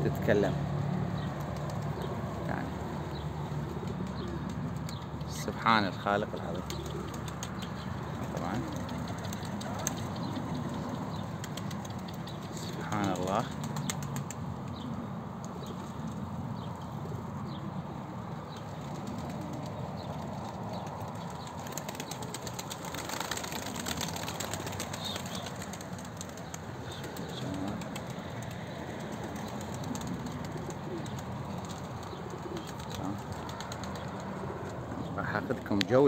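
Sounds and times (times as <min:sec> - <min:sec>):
wings flapping: 0:01.2 - 0:05.2, 0:06.4 - 0:16.2, 0:18.5 - 0:35.1
pigeons cooing: 0:01.2 - 0:35.5.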